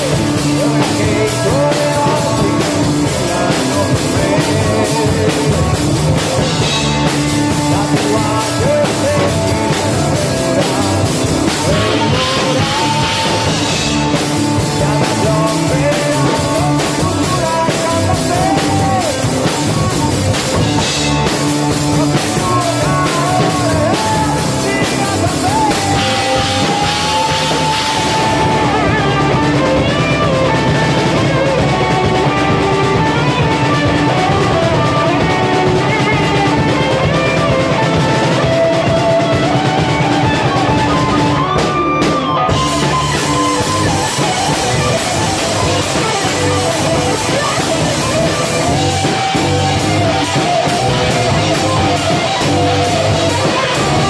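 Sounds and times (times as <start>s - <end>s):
drums played hard: 0.0s - 54.0s
rock song: 0.0s - 54.0s
sliding melody line: 0.1s - 54.0s.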